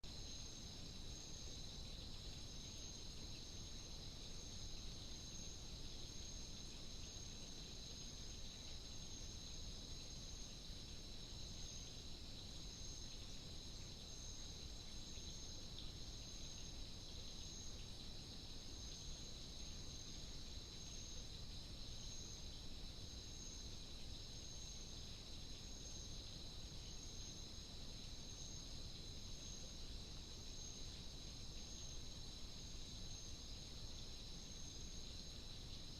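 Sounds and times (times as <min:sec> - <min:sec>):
faint low hiss: 0:00.0 - 0:35.9
insects trilling: 0:00.0 - 0:35.9.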